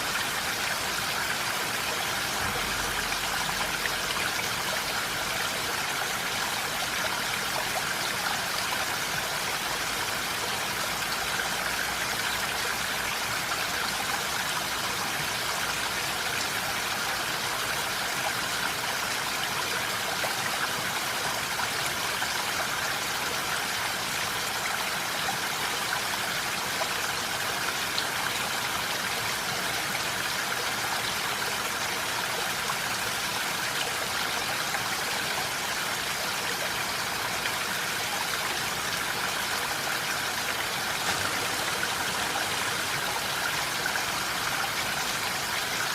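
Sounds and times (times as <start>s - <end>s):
steady rain hiss: 0.0s - 23.4s, 24.0s - 45.9s.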